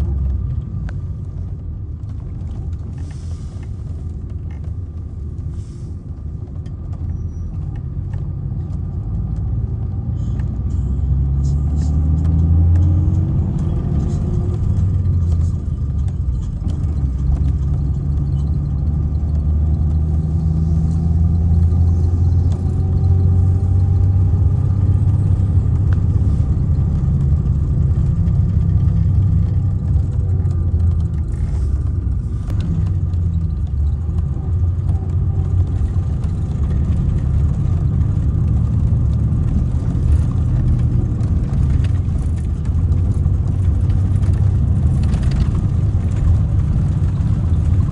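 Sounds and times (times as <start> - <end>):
diesel engine rumbling: 0.0 - 47.9.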